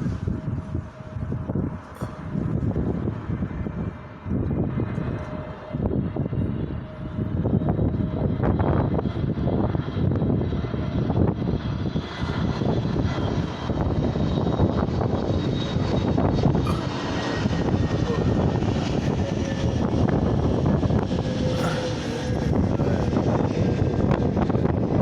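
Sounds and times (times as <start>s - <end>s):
airliner engines rumbling: 0.0s - 25.0s.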